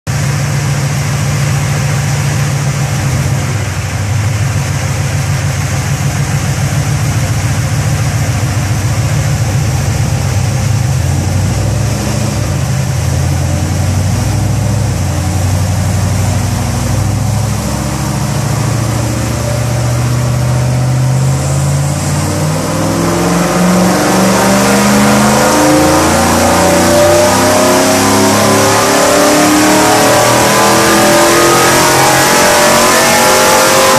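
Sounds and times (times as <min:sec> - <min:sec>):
truck engine revving: 0:05.6 - 0:33.9.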